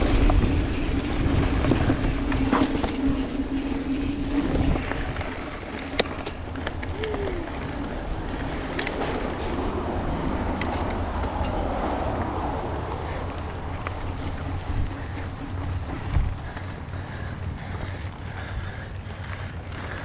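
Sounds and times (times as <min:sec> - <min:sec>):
wind rushing over microphone: 0:00.0 - 0:17.6
bike clicks and rattles: 0:00.0 - 0:20.0
tyres rolling on dirt: 0:00.0 - 0:20.0.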